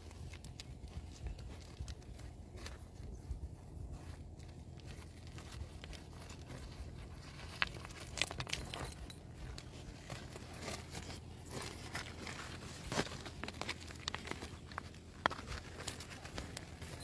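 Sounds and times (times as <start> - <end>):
pig rooting among pebbles: 0.0 - 17.0.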